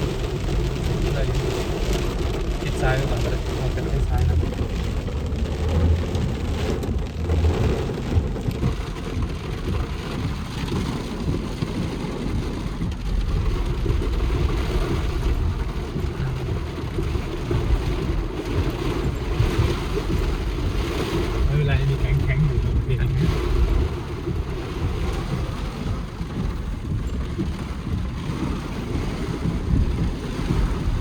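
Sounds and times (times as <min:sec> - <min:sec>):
heavy rain: 0:00.0 - 0:31.0
low rumble: 0:00.0 - 0:31.0.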